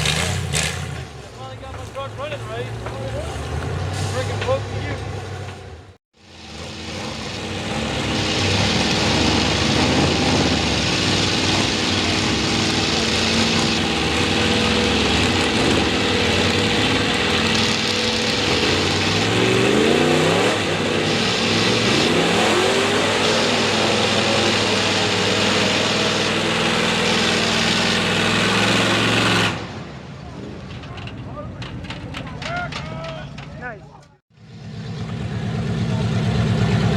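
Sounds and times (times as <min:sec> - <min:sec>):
loud truck engine revving: 0:00.0 - 0:01.4, 0:02.2 - 0:30.0, 0:34.4 - 0:36.9.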